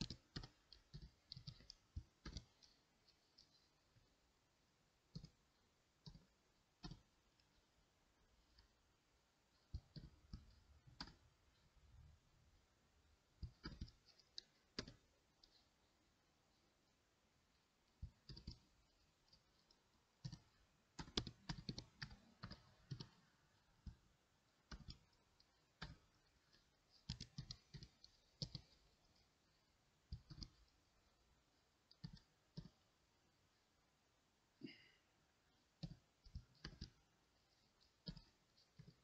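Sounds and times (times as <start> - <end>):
keyboard typing: 0.0 - 4.3, 4.9 - 7.8, 8.4 - 11.9, 13.2 - 15.9, 16.5 - 33.0, 35.5 - 39.0.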